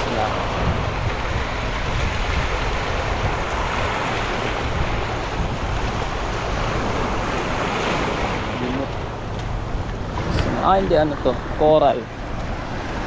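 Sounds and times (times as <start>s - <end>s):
surf washing on shore: 0.0s - 13.0s
wind rumbling on microphone: 0.0s - 13.0s.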